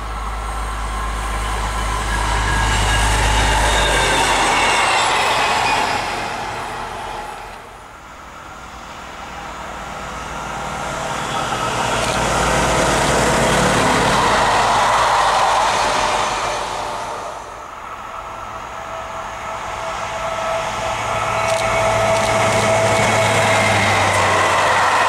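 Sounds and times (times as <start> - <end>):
diesel train passing: 0.0 - 25.0
train wheel noise: 0.0 - 25.0.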